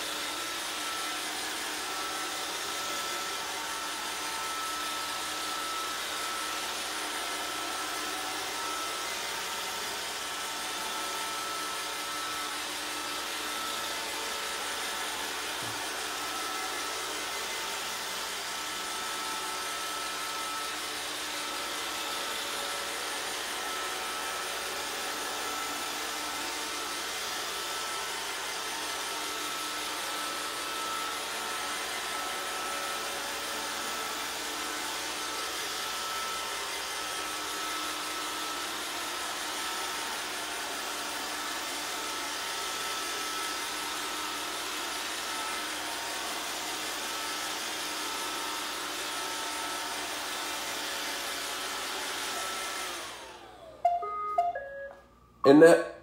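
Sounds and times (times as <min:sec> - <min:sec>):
robot vacuum whirring: 0:00.0 - 0:54.2.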